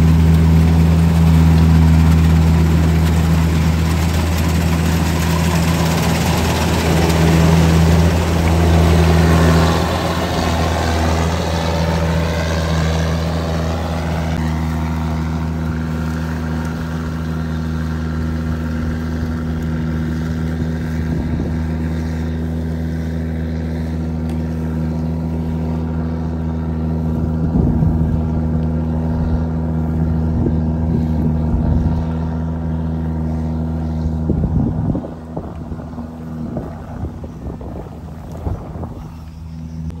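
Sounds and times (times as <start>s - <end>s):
diesel engine running under load: 0.0s - 40.0s.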